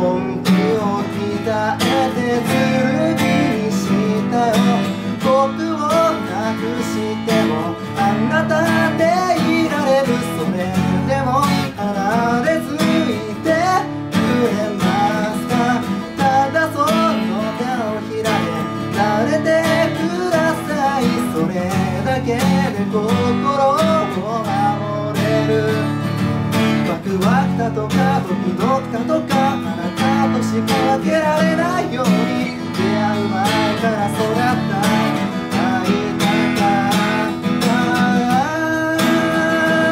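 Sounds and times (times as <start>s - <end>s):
acoustic guitar strumming: 0.0s - 39.9s
man singing: 0.0s - 39.9s.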